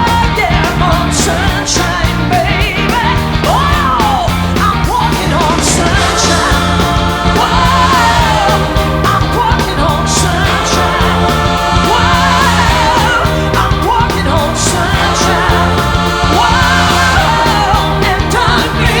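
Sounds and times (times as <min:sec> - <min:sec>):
pop-rock song with singer: 0:00.0 - 0:19.0.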